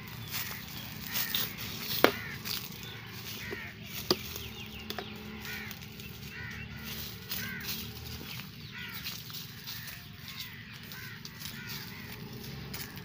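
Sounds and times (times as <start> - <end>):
birds cawing: 0.0 - 13.0.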